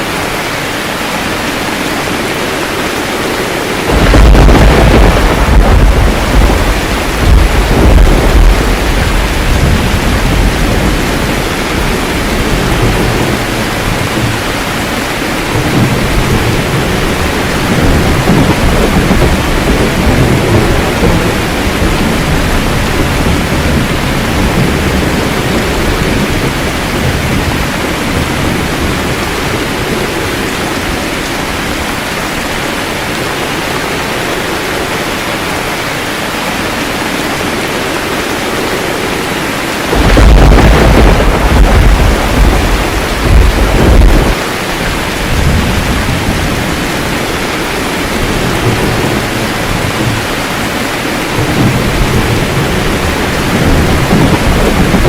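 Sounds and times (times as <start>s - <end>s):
heavy rain: 0.0s - 55.0s
thunder rumble: 0.8s - 32.5s, 37.0s - 55.0s.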